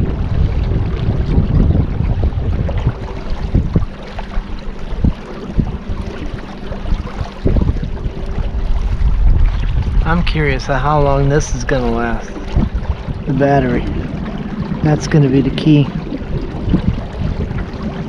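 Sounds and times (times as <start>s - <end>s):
water noise: 0.0s - 18.0s
wind buffeting microphone: 0.0s - 18.0s.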